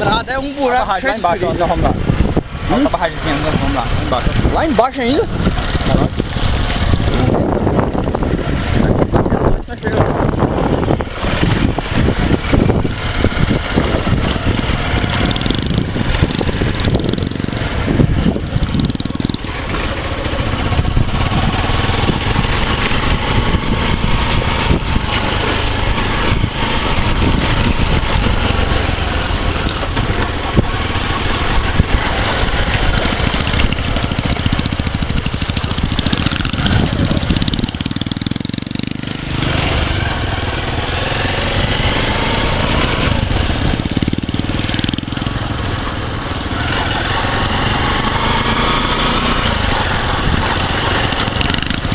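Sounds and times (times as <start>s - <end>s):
small motorcycle engine running: 1.7s - 51.9s.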